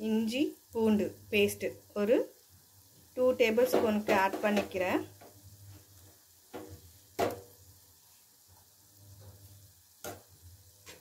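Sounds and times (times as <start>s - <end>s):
masala sizzling in oil: 0.0s - 11.0s.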